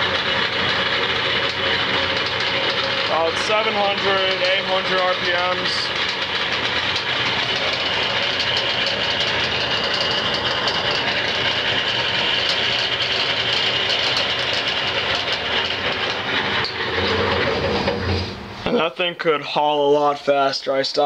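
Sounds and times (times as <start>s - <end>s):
wood lathe motor humming: 0.0s - 18.4s.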